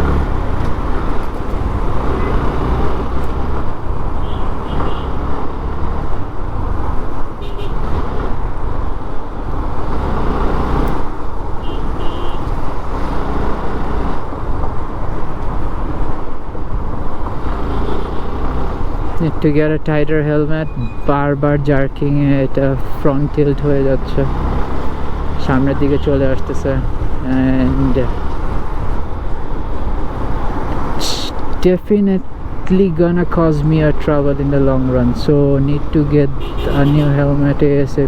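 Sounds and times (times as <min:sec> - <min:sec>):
surrounding traffic: 0:00.0 - 0:38.0.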